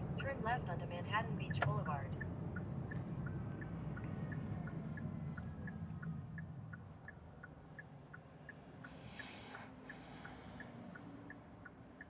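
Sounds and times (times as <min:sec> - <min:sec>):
faint road rumble: 0:00.0 - 0:12.0
turn signal ticking: 0:00.0 - 0:12.0.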